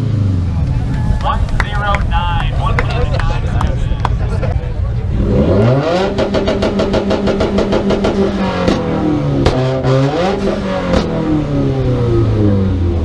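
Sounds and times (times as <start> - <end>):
car engine revving: 0.0 - 13.0
exhaust pops: 0.5 - 11.4.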